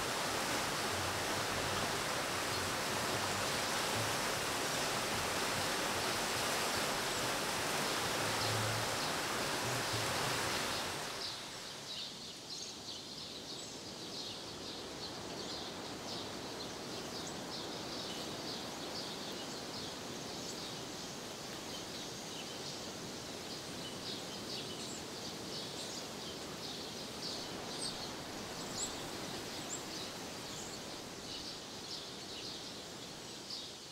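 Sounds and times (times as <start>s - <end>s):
low steady hiss: 0.0s - 33.9s.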